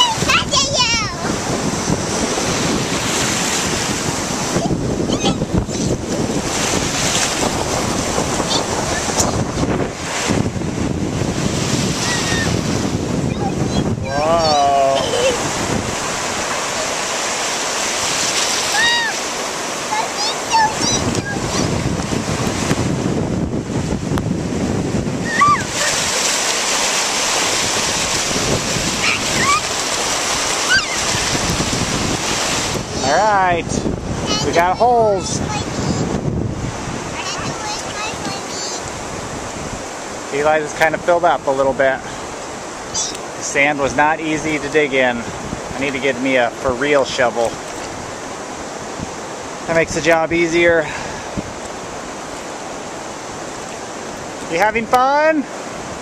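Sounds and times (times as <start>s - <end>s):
ocean surf washing ashore: 0.0s - 56.0s
wind buffeting microphone: 0.0s - 56.0s.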